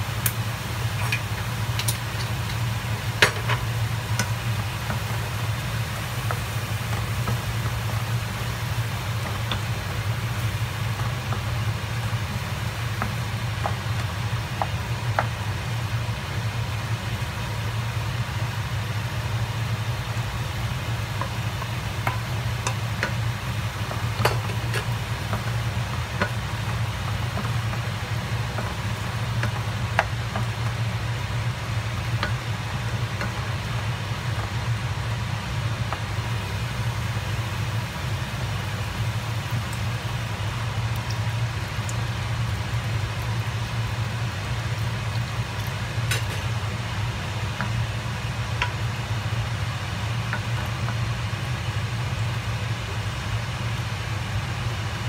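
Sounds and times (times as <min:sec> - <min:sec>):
food sizzling in a frying pan: 0:00.0 - 0:55.0
steady low hum: 0:00.0 - 0:55.0.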